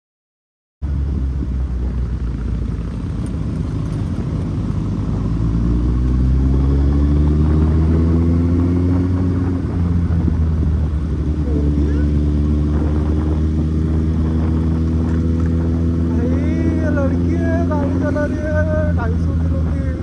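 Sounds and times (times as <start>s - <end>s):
motorcycle engine accelerating: 0.8s - 20.0s.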